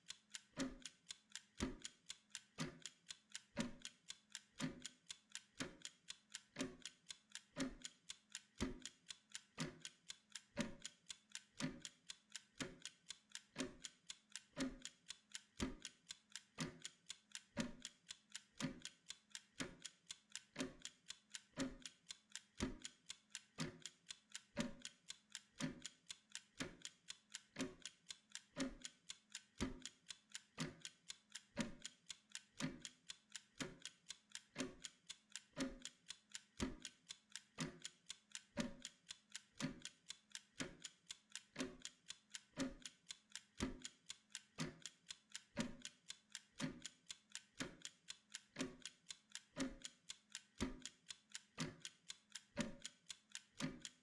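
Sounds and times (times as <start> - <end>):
kitchen timer ticking: 0.0 - 54.0.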